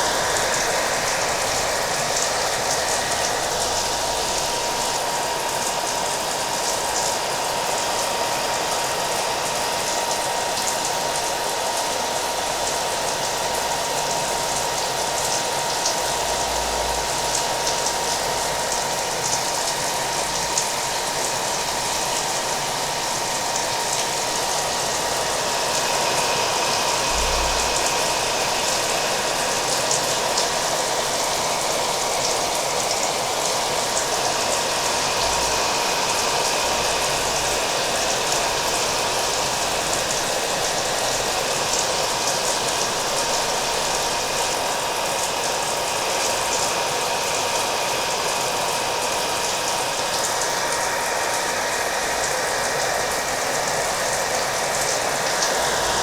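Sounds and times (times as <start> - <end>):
hair dryer running: 0.0 - 56.0
steady rain: 0.0 - 56.0.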